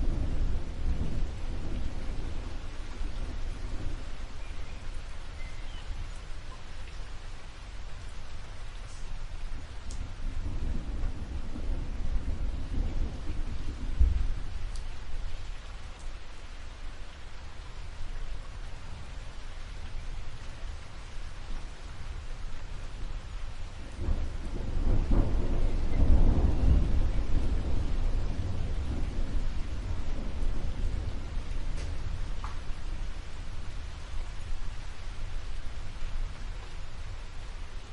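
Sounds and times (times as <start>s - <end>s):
thunder rumbling: 0.0s - 6.5s, 8.4s - 18.0s, 18.6s - 37.9s
steady rain: 0.0s - 37.9s.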